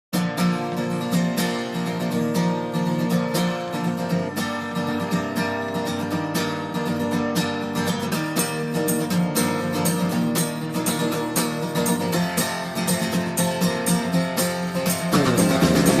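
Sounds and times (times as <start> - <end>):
strummed acoustic guitar: 0.2 - 16.0.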